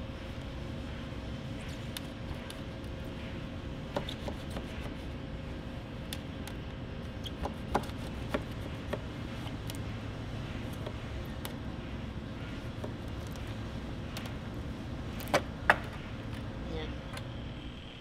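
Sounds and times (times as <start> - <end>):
shop hum with faint tone: 0.0 - 18.0.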